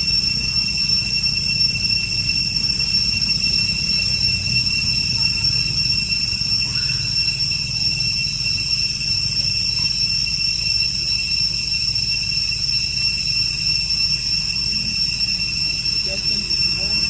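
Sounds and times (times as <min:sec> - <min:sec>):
constant low rumble: 0:00.0 - 0:17.0
high-pitched whine: 0:00.0 - 0:17.0.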